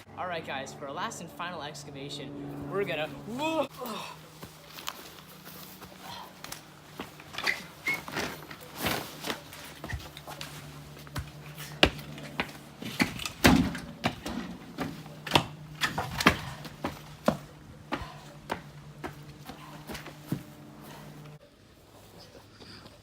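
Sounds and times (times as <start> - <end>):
low hum: 0.0 - 21.4.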